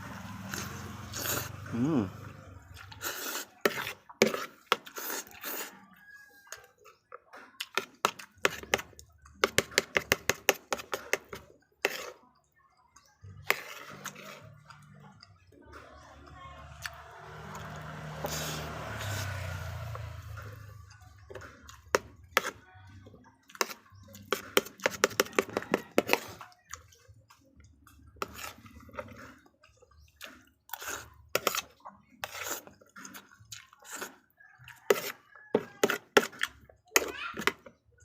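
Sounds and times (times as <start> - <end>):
chewing: 0.1 - 38.0.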